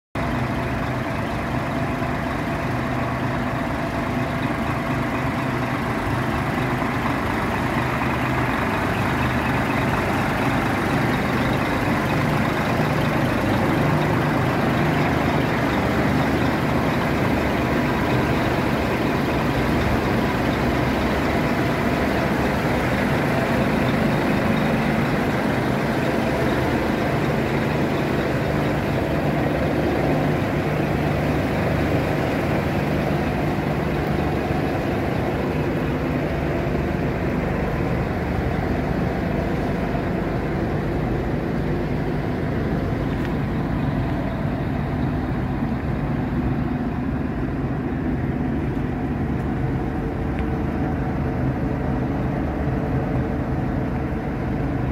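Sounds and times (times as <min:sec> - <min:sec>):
diesel truck engine idling: 0:00.2 - 0:54.9.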